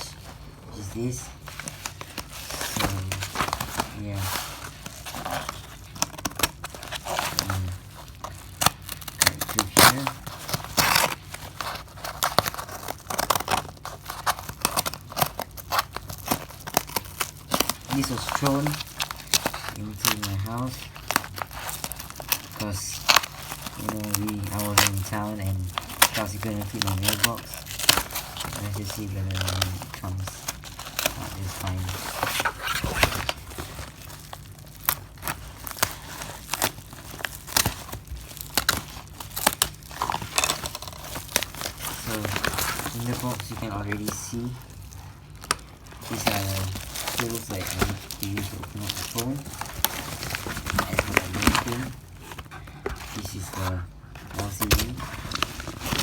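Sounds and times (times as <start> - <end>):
packaging crinkling: 0.0 - 56.0
package being cut and torn: 1.6 - 56.0.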